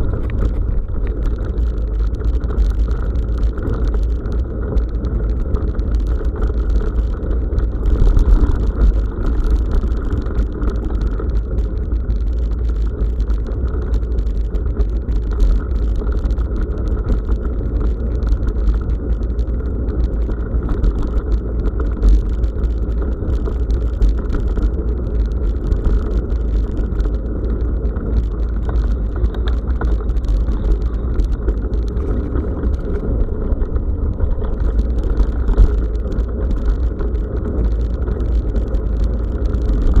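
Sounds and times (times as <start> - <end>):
bicycle tyres rumbling on gravel: 0.0 - 40.0
wind buffeting microphone: 0.0 - 40.0.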